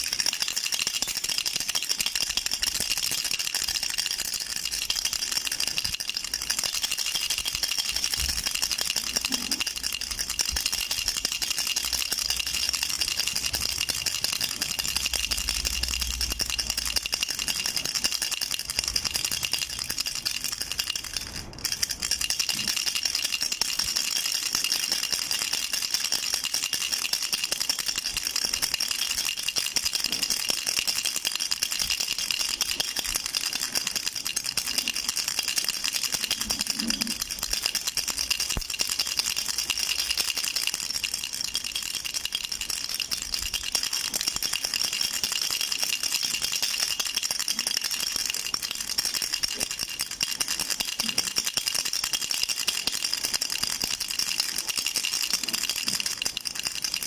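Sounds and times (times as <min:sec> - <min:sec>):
baby rattle shaken: 0:00.0 - 0:57.0.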